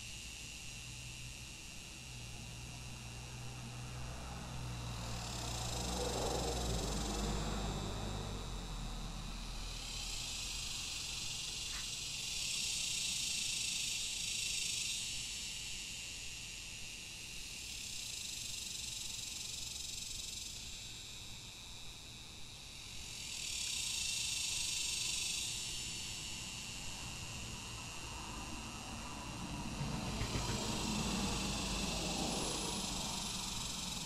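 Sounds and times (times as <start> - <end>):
cicadas buzzing: 0.0 - 34.0.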